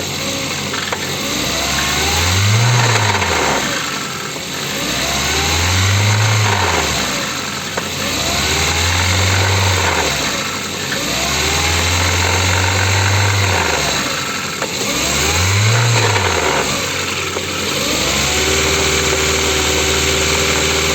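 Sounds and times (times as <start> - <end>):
car engine revving and idling: 0.0 - 20.9.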